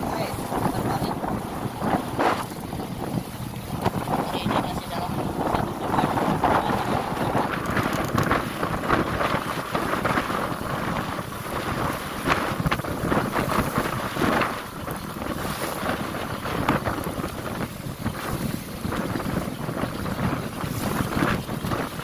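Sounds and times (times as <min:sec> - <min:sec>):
boat engine rumble: 0:00.0 - 0:22.0
waves: 0:00.0 - 0:22.0
wind buffeting microphone: 0:00.0 - 0:22.0.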